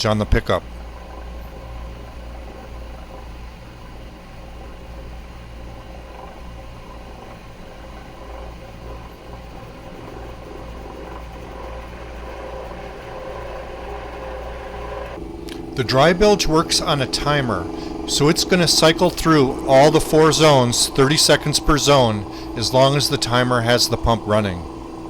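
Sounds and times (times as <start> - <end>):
bilge pump humming: 0.0 - 25.0
pump sucking water: 0.0 - 25.0.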